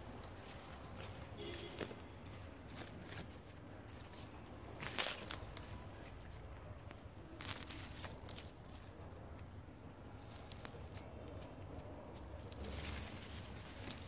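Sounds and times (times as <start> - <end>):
leaves rustling against phone: 0.0 - 14.0.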